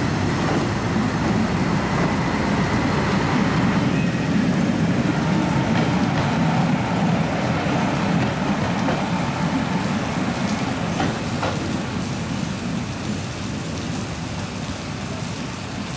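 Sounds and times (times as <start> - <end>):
diesel railbus rumble: 0.0 - 15.9
steady rain falling: 0.0 - 15.9.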